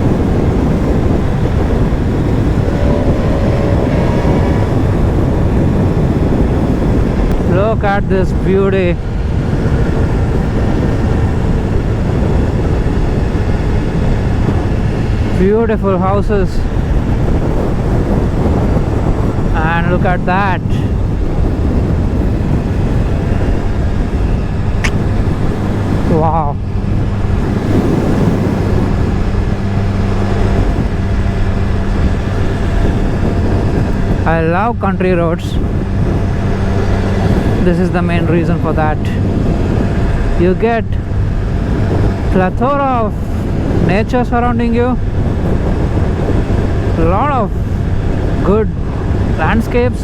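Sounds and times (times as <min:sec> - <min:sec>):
motorcycle engine cruising: 0:00.0 - 0:49.4
wind and road noise: 0:00.0 - 0:50.0.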